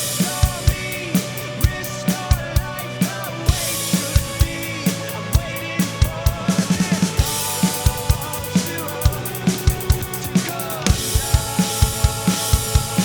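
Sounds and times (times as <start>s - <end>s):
backing music of guitars and keys: 0.0s - 13.0s
electronic drum kit playing: 0.0s - 13.0s.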